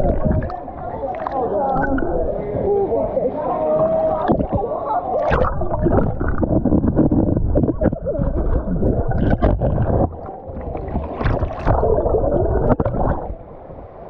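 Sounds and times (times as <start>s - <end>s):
water splashing: 0.0s - 2.4s, 3.8s - 13.7s
underwater rumble and bubbling: 0.0s - 2.8s, 3.7s - 14.0s.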